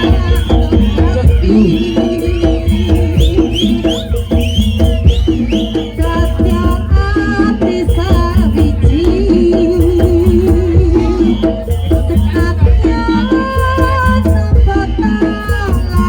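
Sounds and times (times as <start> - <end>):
folk music with drums: 0.0 - 16.0
heavy drum beat: 0.0 - 16.0
wavering held melody: 0.0 - 16.0.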